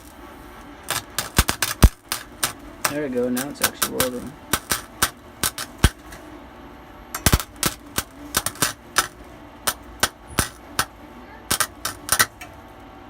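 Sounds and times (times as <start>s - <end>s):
welding arc crackling: 0.0s - 6.4s, 7.1s - 12.7s.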